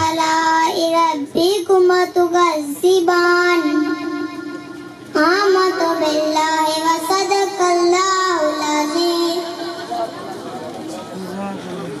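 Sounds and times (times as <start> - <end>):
boy singing unaccompanied: 0.0 - 10.1.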